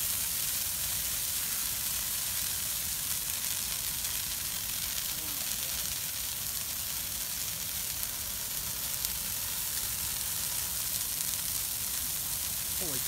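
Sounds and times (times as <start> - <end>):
bonfire crackling: 0.0 - 13.0
fire popping: 0.0 - 13.0.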